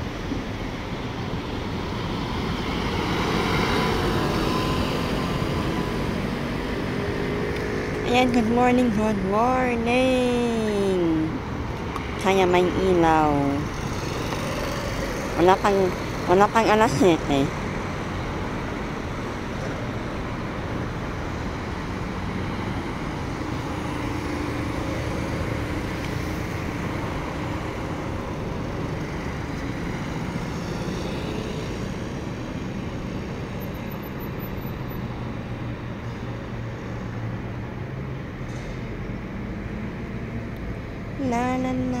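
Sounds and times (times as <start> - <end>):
cars driving past: 0.0 - 41.2.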